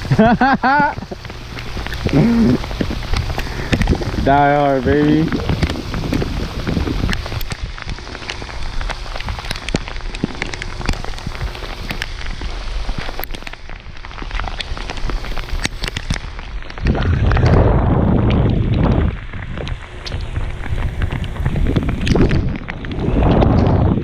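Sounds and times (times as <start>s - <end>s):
heavy rain pouring: 0.0s - 24.0s
wind rumble on microphone: 0.0s - 24.0s.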